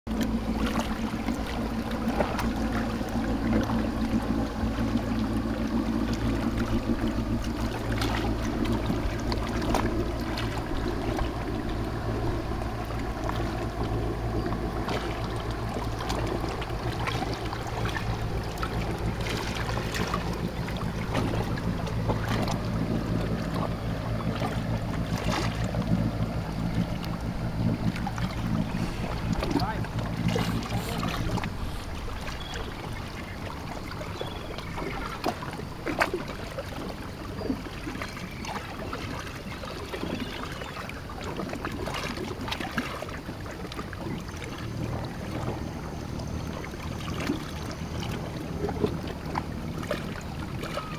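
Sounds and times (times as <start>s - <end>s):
motorboat engine humming: 0.0s - 50.9s.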